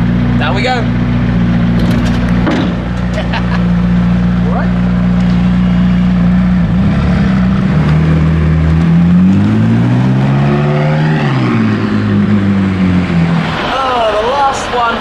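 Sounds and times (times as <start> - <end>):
sports car engine revving: 0.0 - 13.7.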